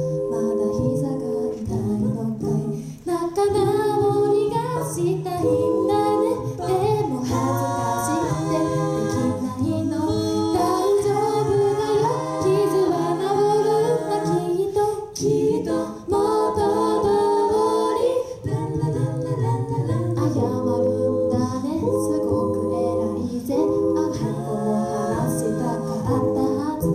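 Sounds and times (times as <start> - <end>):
a cappella group singing: 0.0 - 26.9.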